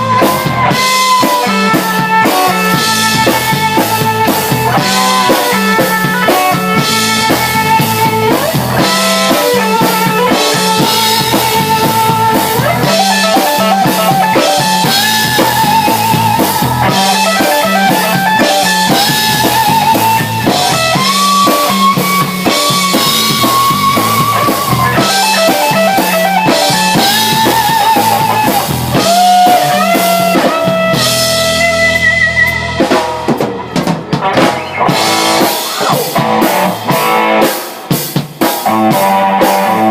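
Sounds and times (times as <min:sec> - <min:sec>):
lead guitar melody: 0:00.0 - 0:39.9
rock band playing: 0:00.0 - 0:39.9
steady drum beat: 0:00.0 - 0:39.9.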